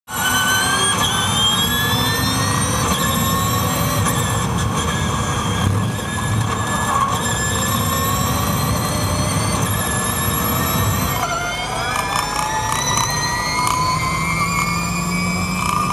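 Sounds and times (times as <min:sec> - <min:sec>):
electric drivetrain whine: 0:00.1 - 0:15.9.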